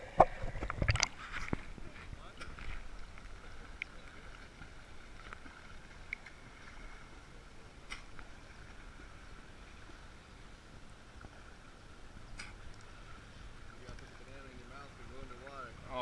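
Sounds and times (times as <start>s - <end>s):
faint steady hum: 0.0s - 16.0s
muffled water sloshing: 0.0s - 16.0s.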